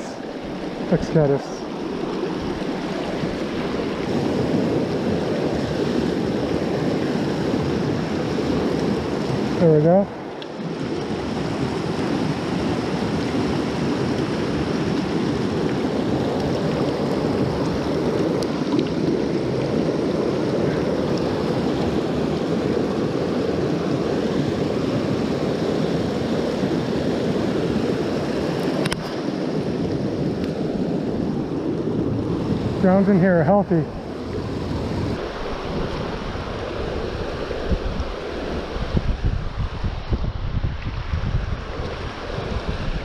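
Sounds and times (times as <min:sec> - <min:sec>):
creek rushing over rocks: 0:00.0 - 0:43.0.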